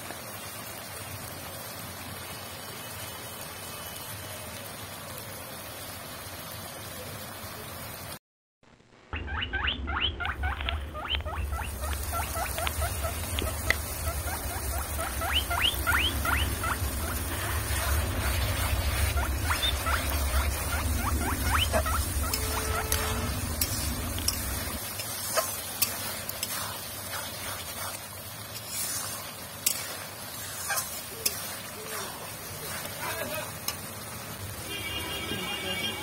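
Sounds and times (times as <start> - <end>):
curry boiling and bubbling: 0.0 - 36.0.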